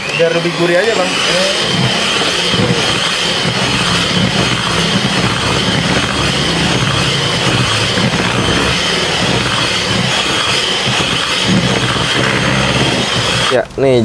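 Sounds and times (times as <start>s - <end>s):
electric hand mixer whirring: 0.0s - 13.7s.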